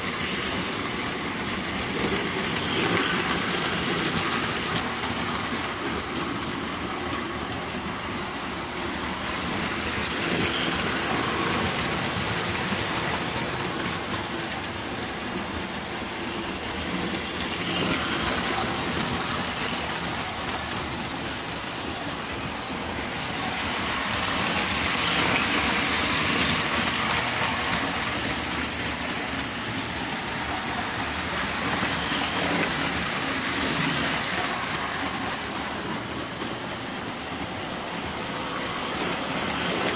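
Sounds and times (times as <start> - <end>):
toy trains rumbling on metal track: 0.0 - 39.9.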